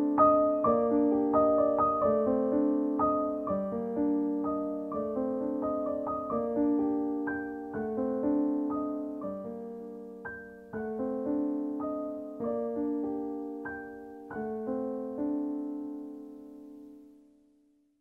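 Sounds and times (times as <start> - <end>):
slow gentle piano music: 0.0 - 17.7.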